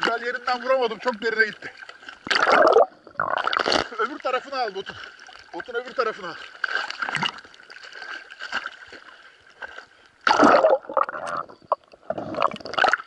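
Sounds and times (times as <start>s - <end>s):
sea water sloshing and gurgling: 0.0s - 13.0s.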